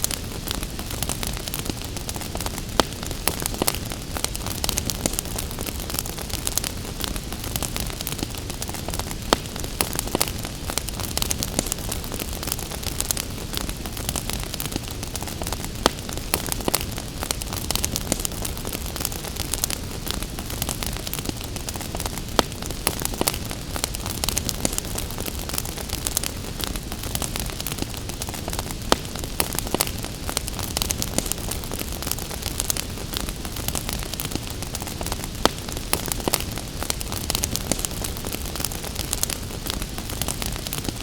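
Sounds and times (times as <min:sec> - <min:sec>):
gentle rain hiss: 0:00.0 - 0:41.0
wood fire crackling and popping: 0:00.0 - 0:41.0.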